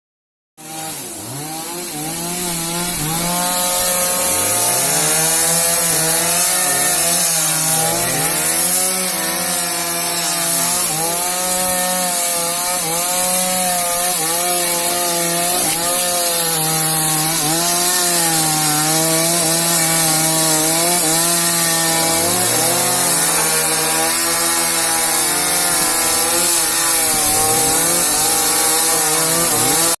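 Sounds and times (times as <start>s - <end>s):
chainsaw revving: 0.6s - 30.0s
chainsaw running steadily: 0.6s - 30.0s.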